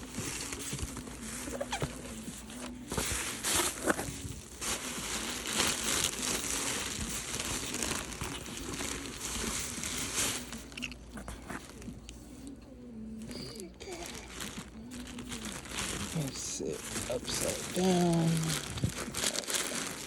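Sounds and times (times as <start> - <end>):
packaging crinkling: 0.0 - 12.2, 13.3 - 20.0.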